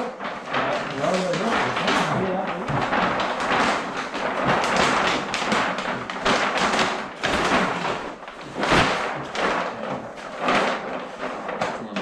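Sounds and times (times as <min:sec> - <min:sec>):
dull thumps: 0:00.0 - 0:12.0
plastic film crumpling: 0:00.0 - 0:12.0.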